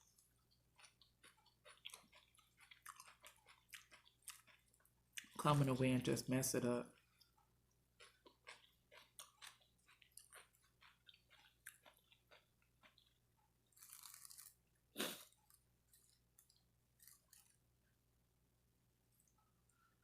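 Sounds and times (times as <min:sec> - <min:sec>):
person chewing food: 0:00.0 - 0:05.4, 0:07.0 - 0:17.7.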